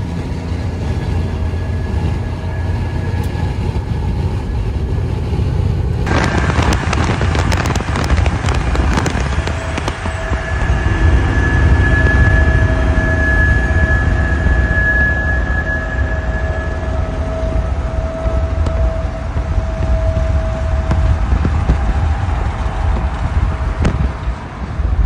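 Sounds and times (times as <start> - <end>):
high whine: 0.0 - 25.0
truck driving rumble: 0.0 - 25.0
wind buffeting crackles: 0.1 - 25.0.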